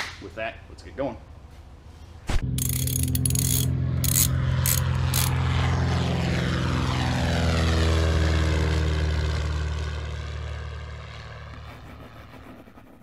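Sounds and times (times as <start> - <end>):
propeller airplane flying past: 1.3 - 13.0.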